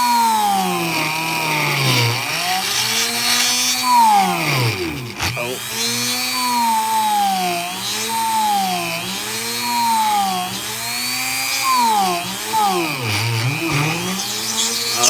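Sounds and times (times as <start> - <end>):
rotary tool drilling: 0.0 - 15.0.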